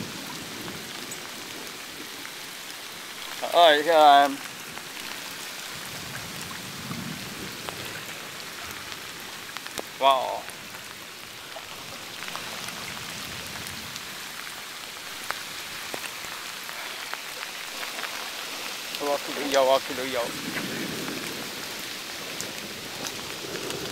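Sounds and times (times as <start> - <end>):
heavy rain pouring: 0.0 - 23.9
raindrops tapping close by: 0.0 - 23.9.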